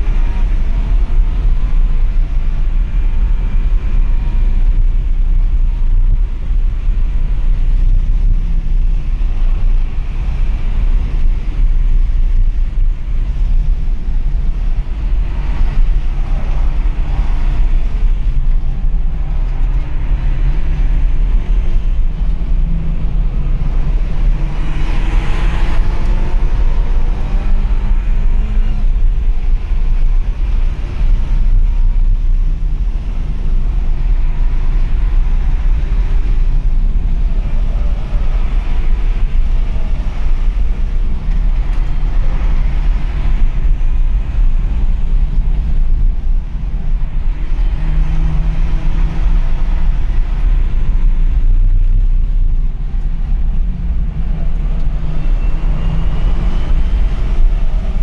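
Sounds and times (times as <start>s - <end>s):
car engine and road drone: 0.0s - 58.0s.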